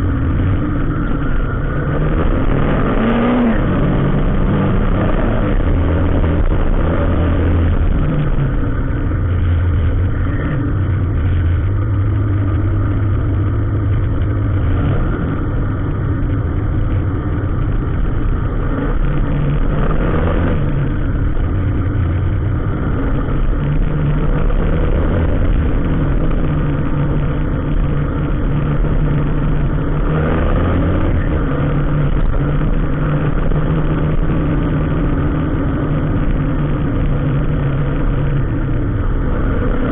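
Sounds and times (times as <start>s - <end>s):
vehicle engine running at low revs: 0.0s - 39.9s.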